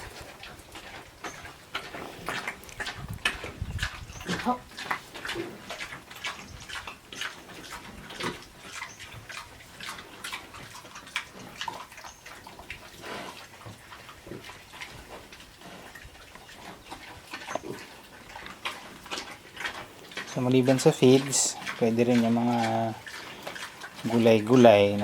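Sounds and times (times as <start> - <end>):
pigs smacking and slurping: 0.0 - 25.0.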